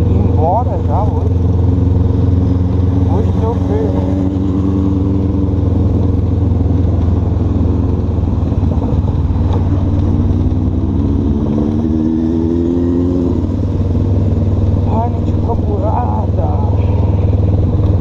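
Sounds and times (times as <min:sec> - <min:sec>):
motorcycle engine running: 0:00.0 - 0:18.0
tyres rumbling over cobblestones: 0:00.0 - 0:18.0.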